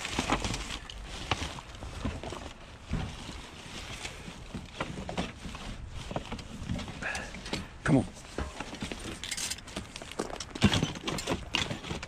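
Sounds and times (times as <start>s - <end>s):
items knocking and clattering: 0.0s - 3.5s, 4.2s - 12.0s
bags and fabric rustling: 0.0s - 12.0s.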